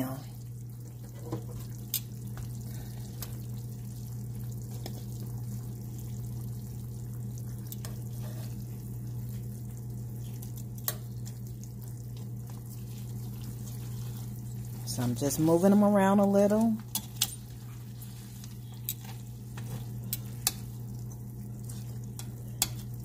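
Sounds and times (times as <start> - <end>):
low hum with crackling: 0.0 - 23.0.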